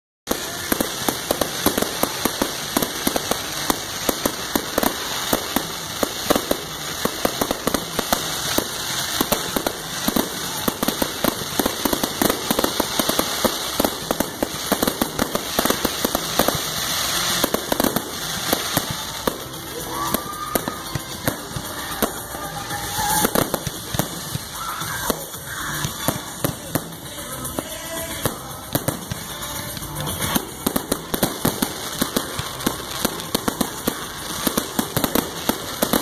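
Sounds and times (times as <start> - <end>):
fireworks crackling and popping: 0.3 - 36.0.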